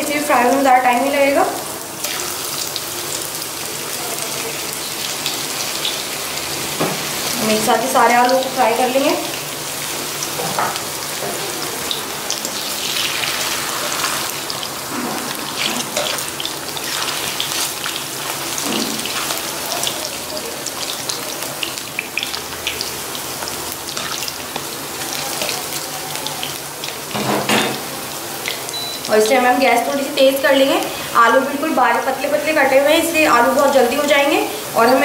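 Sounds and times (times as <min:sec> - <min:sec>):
potato slices sizzling in oil: 0:00.0 - 0:35.0.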